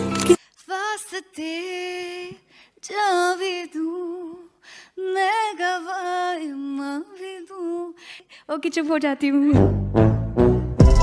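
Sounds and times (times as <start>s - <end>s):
woman singing unaccompanied: 0.6s - 9.6s.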